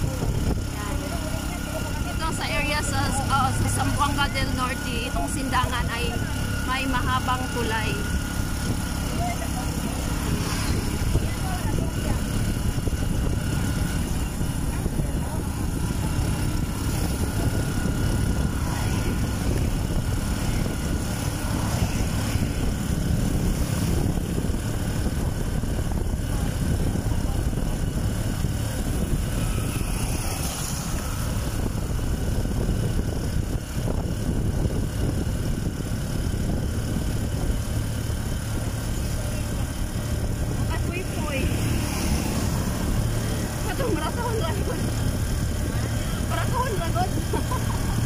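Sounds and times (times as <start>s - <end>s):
road noise: 0.0s - 48.0s
vehicle engine drone: 0.0s - 48.0s.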